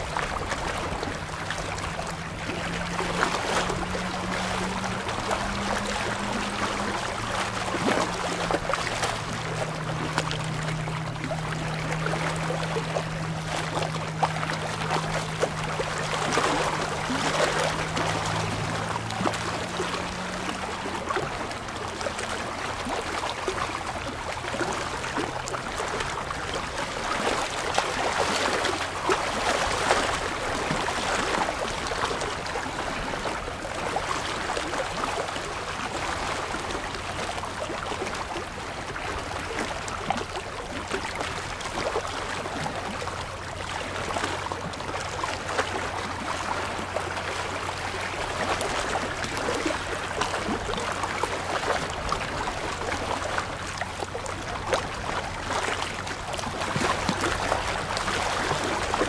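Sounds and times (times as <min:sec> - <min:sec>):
waves lapping against rocks: 0:00.0 - 0:59.0.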